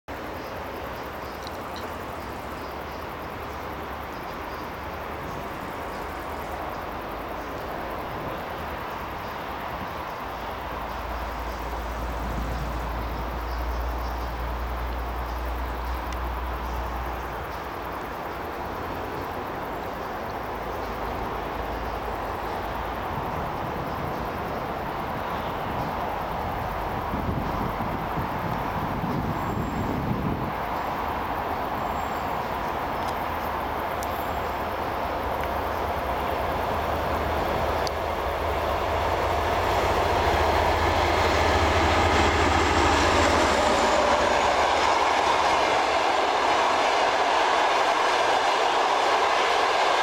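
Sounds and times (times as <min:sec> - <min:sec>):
diesel locomotive engine rumble: 0:00.1 - 0:50.0
rail noise: 0:00.1 - 0:50.0.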